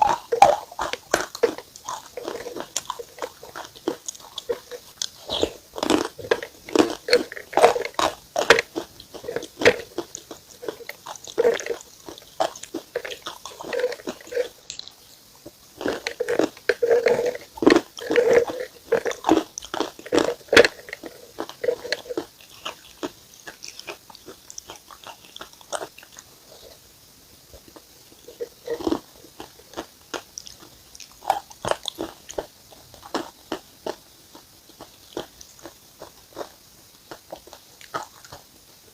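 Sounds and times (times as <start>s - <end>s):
crunchy food chewing: 0.0s - 38.9s.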